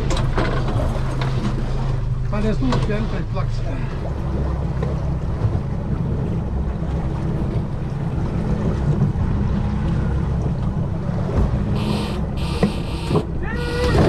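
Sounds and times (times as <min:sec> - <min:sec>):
boat engine humming: 0:00.0 - 0:14.0
water against hull: 0:00.0 - 0:14.0.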